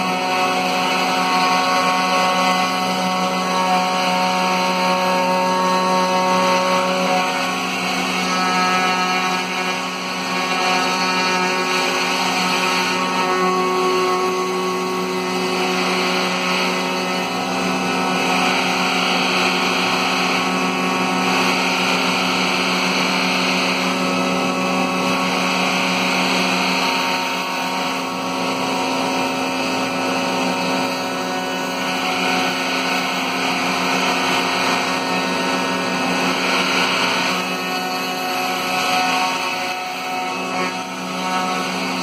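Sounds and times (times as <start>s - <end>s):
router bit cutting wood: 0.0s - 42.0s
router motor whine: 0.0s - 42.0s.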